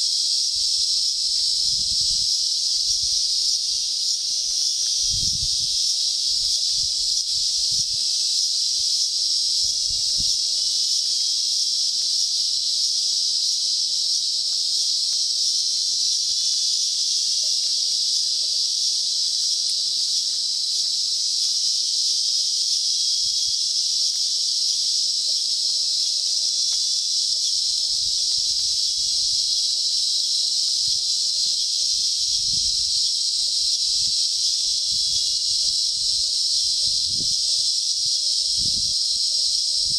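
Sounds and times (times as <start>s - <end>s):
insect chorus shrill drone: 0.0s - 39.9s.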